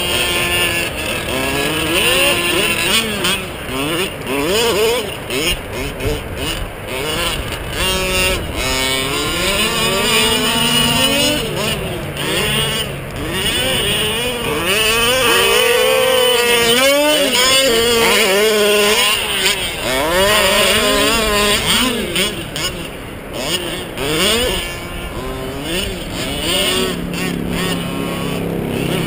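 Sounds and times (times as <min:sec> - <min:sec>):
small engines revving: 0:00.0 - 0:29.0.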